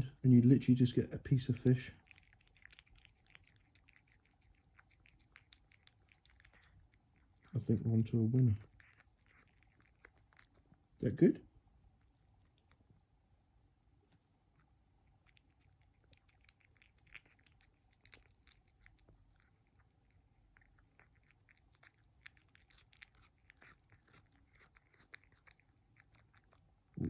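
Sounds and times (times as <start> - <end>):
cat chewing: 1.3 - 11.0, 11.8 - 13.2, 13.9 - 27.0.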